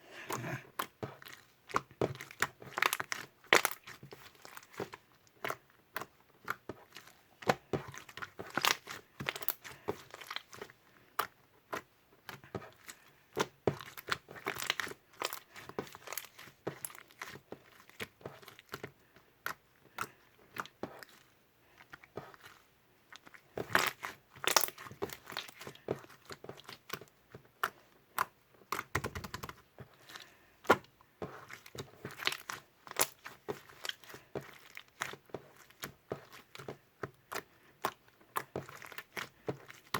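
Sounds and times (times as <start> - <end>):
slime squished by hand: 0.2 - 39.9.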